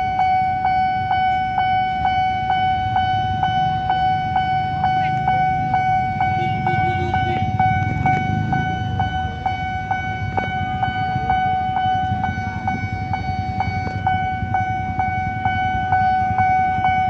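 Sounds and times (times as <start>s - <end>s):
level crossing bell ringing: 0.0s - 17.0s
motorcycles and traffic idling: 0.0s - 17.0s.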